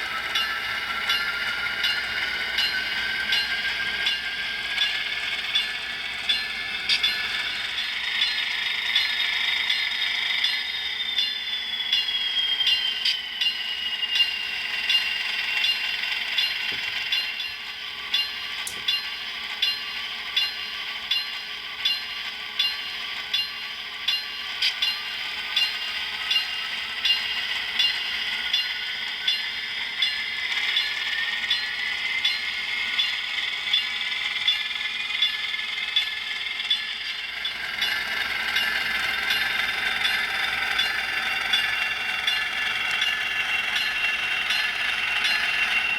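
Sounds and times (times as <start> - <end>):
model train motor whining: 0.0 - 45.9.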